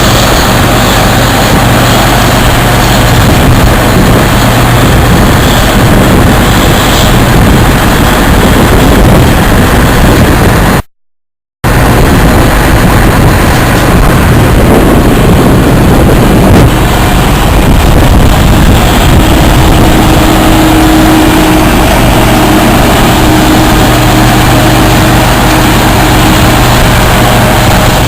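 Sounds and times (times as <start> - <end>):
combine harvester running: 0.0 - 10.9, 11.6 - 28.0.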